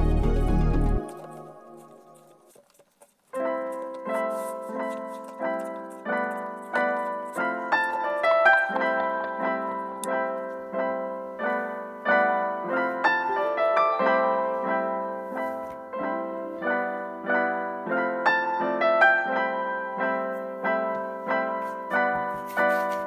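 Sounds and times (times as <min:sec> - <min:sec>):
gentle piano chords: 0:00.0 - 0:02.5, 0:03.3 - 0:23.0.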